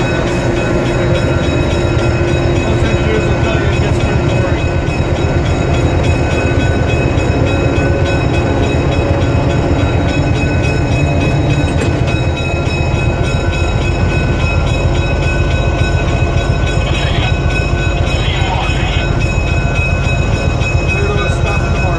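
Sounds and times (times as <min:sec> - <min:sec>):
locomotive engine drone: 0:00.0 - 0:21.9.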